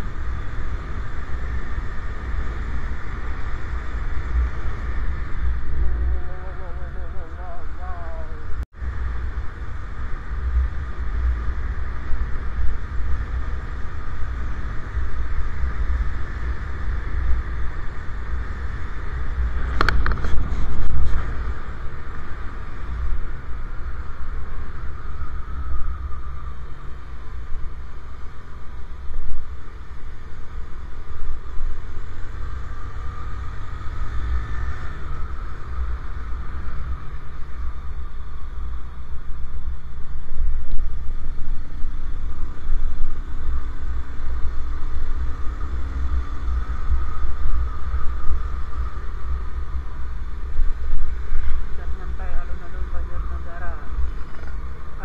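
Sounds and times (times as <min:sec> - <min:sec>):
motorcycle engine: 0:00.0 - 0:55.0
tyres on road: 0:00.0 - 0:55.0
wind noise on microphone: 0:00.0 - 0:55.0.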